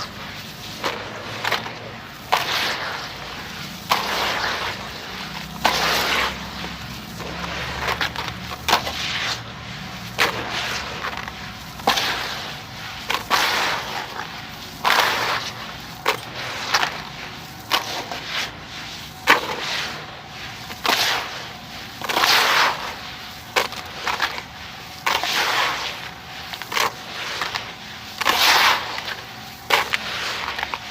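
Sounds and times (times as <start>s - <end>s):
sand-cement pieces crunching: 0.0s - 30.9s.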